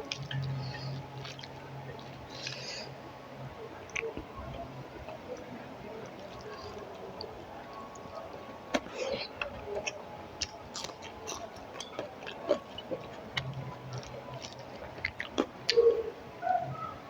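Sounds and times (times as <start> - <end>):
person chewing food: 0.0 - 3.0, 3.8 - 16.0.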